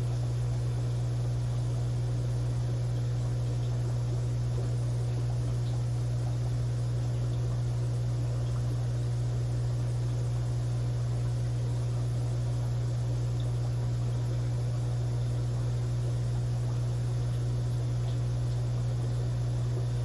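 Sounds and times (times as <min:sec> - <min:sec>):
aquarium equipment humming: 0:00.0 - 0:20.0.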